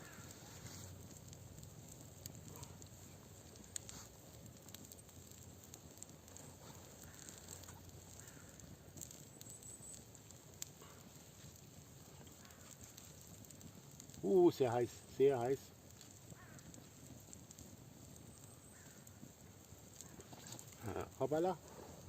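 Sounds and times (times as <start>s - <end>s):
campfire crackling: 0.0s - 22.0s
sharp fire pops: 0.0s - 22.0s.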